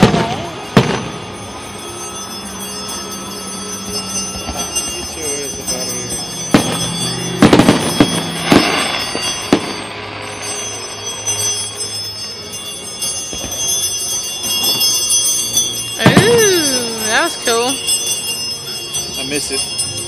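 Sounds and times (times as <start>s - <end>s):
fireworks bursting: 0.0s - 20.0s
fireworks crackling: 0.0s - 20.0s.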